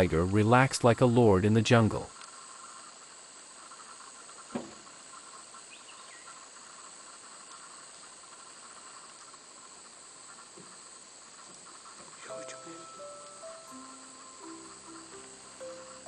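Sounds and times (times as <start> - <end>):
insects droning: 0.0 - 16.0
faint chirps: 2.3 - 16.0.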